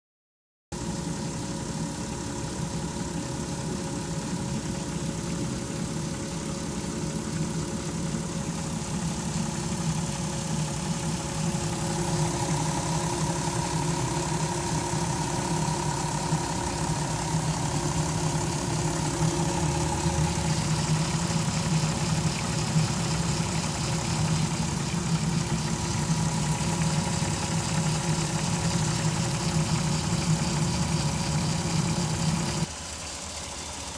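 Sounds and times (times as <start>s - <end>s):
car engine idling: 0.8s - 33.9s.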